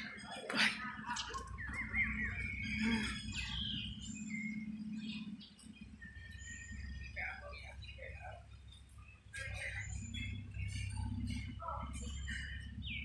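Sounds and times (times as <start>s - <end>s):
birds chirping: 0.0s - 13.0s
low background rumble: 0.0s - 13.0s.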